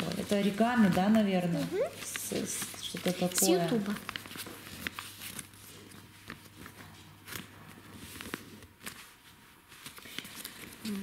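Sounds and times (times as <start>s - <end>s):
paper being folded and creased: 0.0s - 11.0s.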